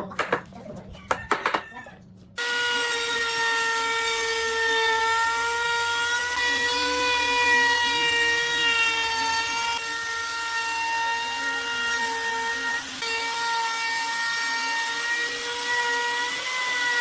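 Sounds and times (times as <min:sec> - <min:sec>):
power tool motor whining: 0:02.4 - 0:17.0.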